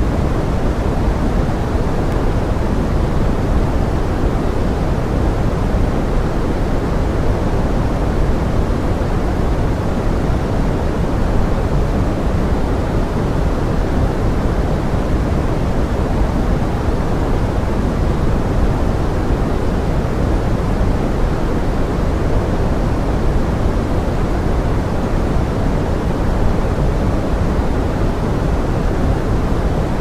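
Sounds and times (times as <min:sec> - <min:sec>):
pink noise: 0:00.0 - 0:30.0.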